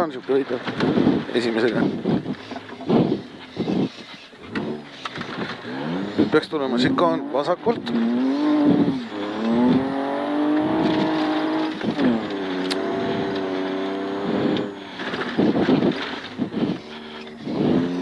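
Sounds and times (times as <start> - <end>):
rally car engine accelerating: 2.0 - 18.0.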